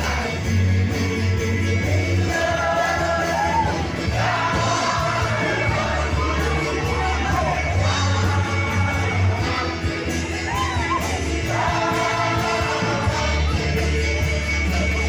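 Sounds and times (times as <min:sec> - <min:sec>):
loud bass notes: 0:00.0 - 0:15.0
person singing: 0:00.0 - 0:15.0.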